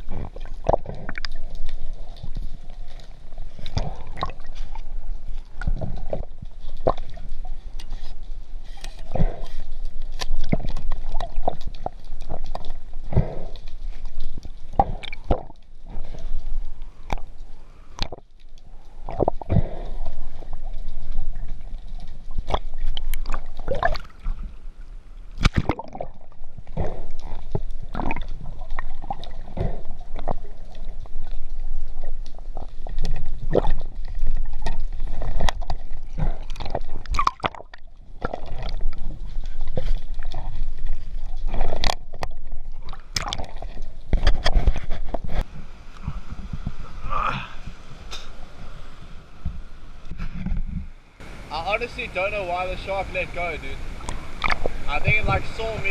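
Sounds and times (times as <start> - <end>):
underwater gurgling and sloshing: 0.0 - 55.9.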